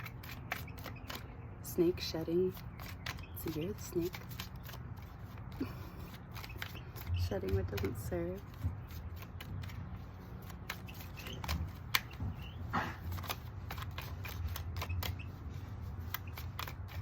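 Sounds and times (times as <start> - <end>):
cards being shuffled: 0.0 - 1.3, 2.5 - 17.0.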